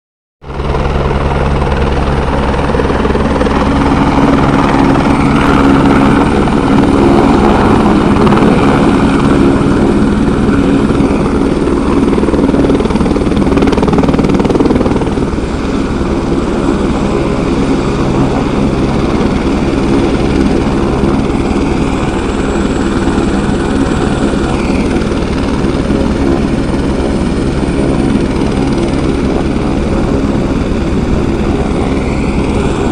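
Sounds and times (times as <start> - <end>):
helicopter rotor and turbine: 0.4 - 32.9.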